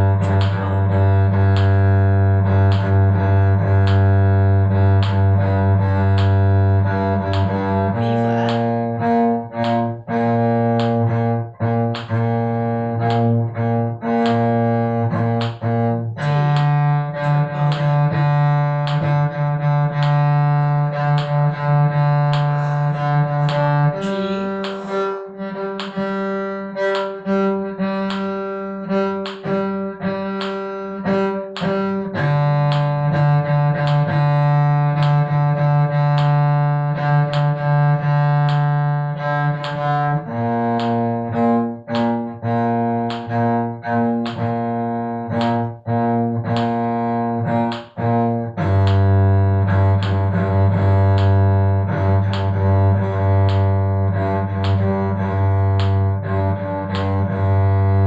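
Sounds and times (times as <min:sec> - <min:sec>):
cello playing slow arpeggio: 0:00.0 - 0:58.0.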